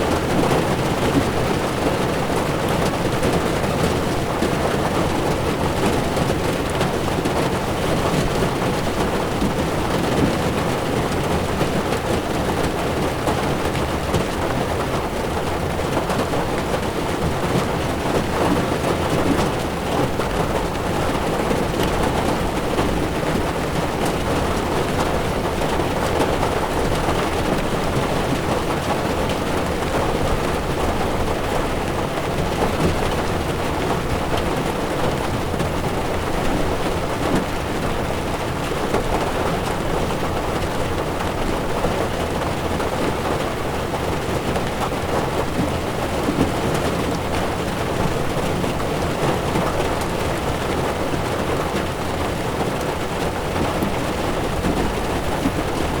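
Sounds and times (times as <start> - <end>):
heavy rain drumming on car roof: 0.0 - 56.0
tyres rumbling on wet road: 0.0 - 56.0.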